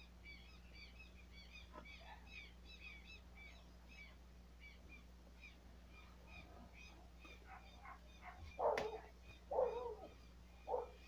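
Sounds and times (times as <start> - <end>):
low steady hum: 0.0 - 11.0
small birds chirping: 0.0 - 11.0.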